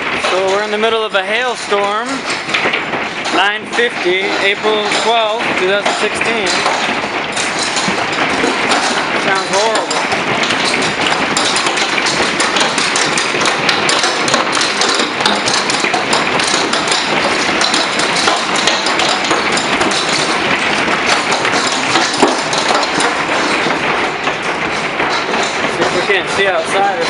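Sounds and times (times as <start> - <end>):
hailstones clattering: 0.0 - 27.0.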